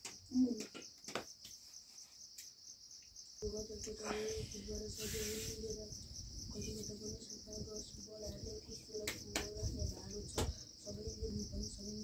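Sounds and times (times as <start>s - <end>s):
insects chirping in a trill: 0.0s - 12.0s.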